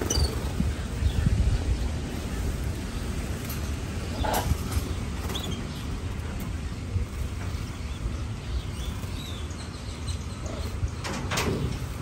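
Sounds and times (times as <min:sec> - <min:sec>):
canaries chirping: 0:00.0 - 0:12.0
steady low rumble: 0:00.0 - 0:12.0.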